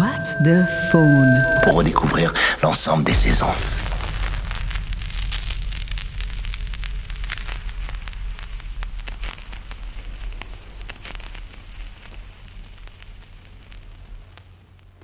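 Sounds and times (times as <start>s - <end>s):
crackling and popping: 0.0s - 15.0s
low steady hum: 0.0s - 15.0s.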